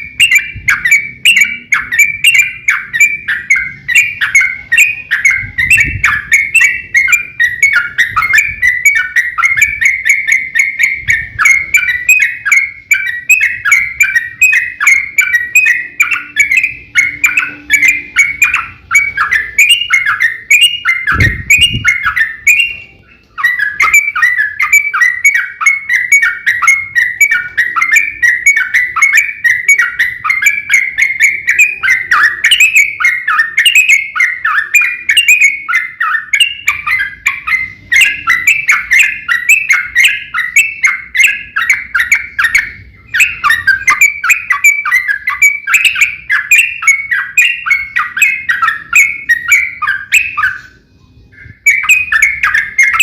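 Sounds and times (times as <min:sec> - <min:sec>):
bird chattering song: 0:00.0 - 0:53.0.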